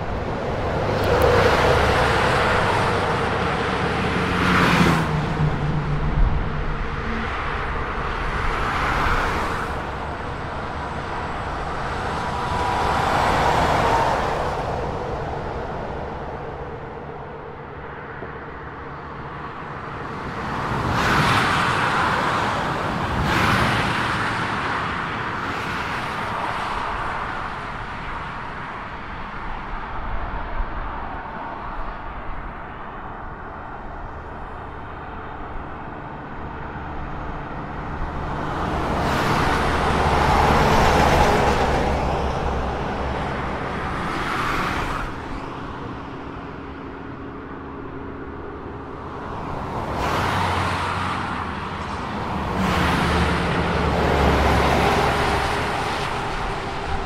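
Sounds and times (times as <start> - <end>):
cars passing: 0.0 - 57.0
steady traffic hum: 0.0 - 57.0.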